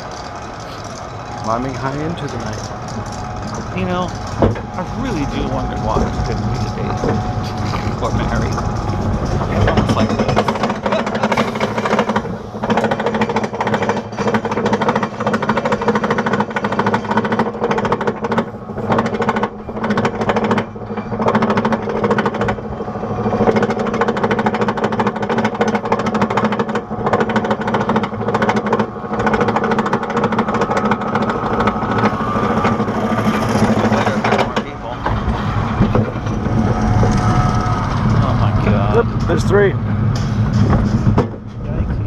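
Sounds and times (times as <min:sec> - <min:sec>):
lift chain clattering: 0:00.0 - 0:38.2
lift drive hum: 0:00.0 - 0:42.0.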